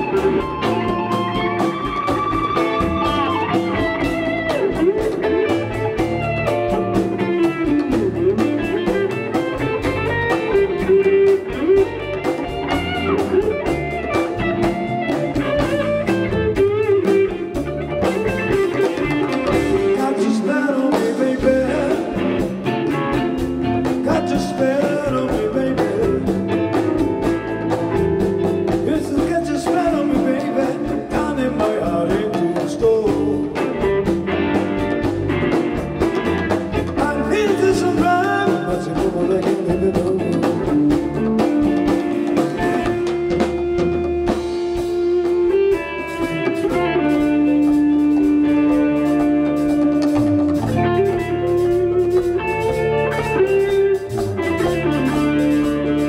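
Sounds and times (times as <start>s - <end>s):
bass guitar: 0.0s - 56.0s
drums: 0.0s - 56.0s
electric guitars: 0.0s - 56.0s.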